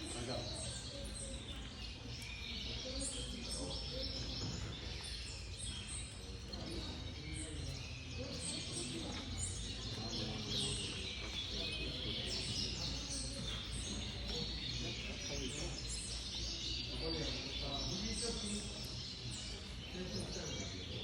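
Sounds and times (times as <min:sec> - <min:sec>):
canaries chirping and trilling: 0:00.0 - 0:21.0
faint murmur of voices: 0:00.0 - 0:21.0.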